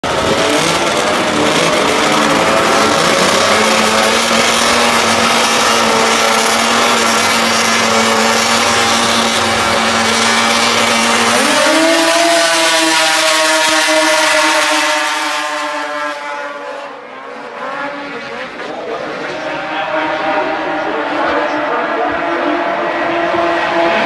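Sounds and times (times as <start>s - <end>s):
snowmobile engines revving: 0.0s - 24.0s.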